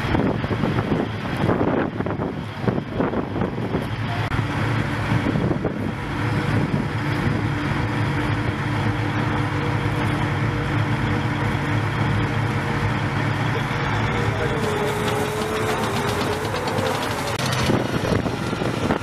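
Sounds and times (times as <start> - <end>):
heavy engine idling: 0.0 - 19.0
tracked vehicle passing: 0.0 - 19.0.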